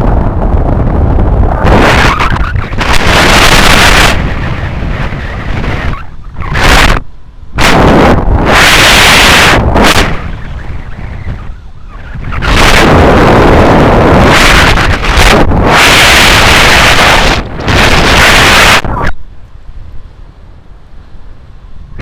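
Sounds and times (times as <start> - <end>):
strong wind on microphone: 0.0 - 22.0.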